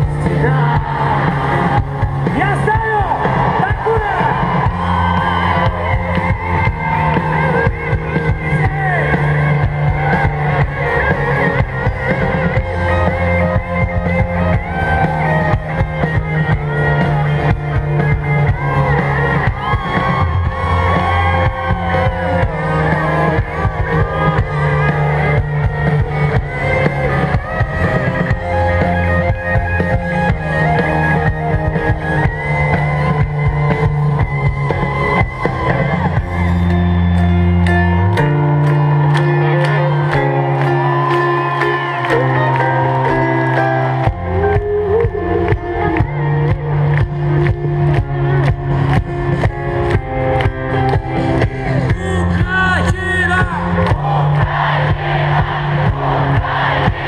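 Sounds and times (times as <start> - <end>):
bass guitar: 0.0 - 57.0
drums beating: 0.0 - 57.0
electric guitar: 0.0 - 57.0.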